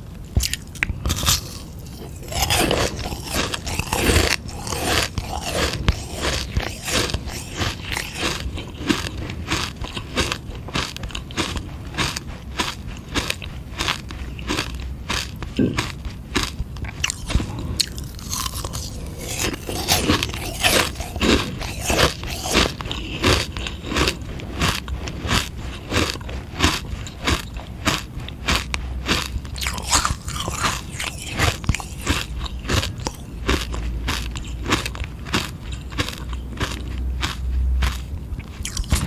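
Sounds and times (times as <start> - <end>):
crunching ice lolly: 0.4 - 39.0.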